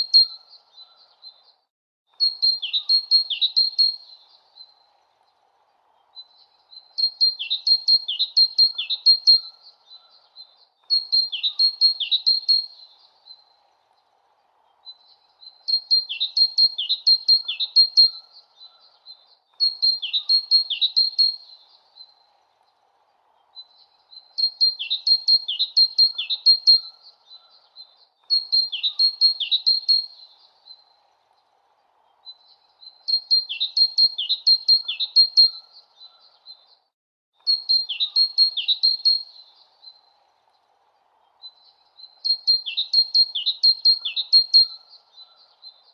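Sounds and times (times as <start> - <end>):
songbird chirping: 0.0 - 45.9.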